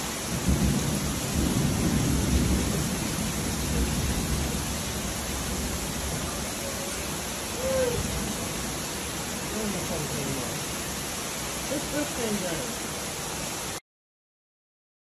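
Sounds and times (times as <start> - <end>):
heavy rain pouring: 0.0 - 13.8.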